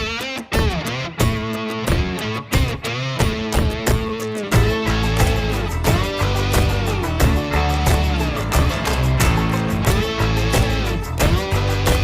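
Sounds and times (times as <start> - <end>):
electric guitar rock music: 0.0 - 12.0
steady drum beat: 0.6 - 12.0.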